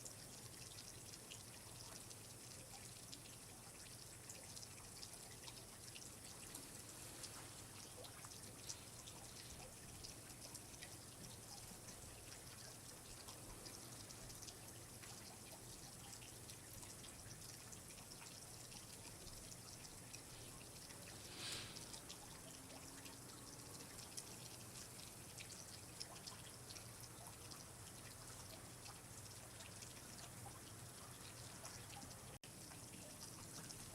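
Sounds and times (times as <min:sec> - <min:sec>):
water dripping and trickling: 0:00.0 - 0:33.9.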